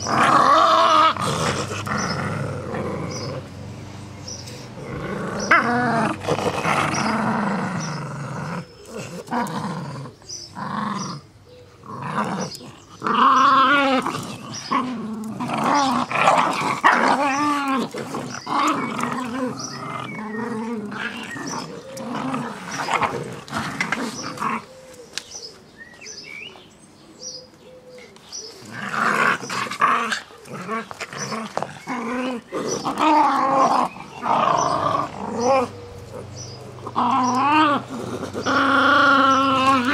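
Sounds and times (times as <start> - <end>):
dogs growling in play: 0.0 - 25.2, 28.0 - 39.9.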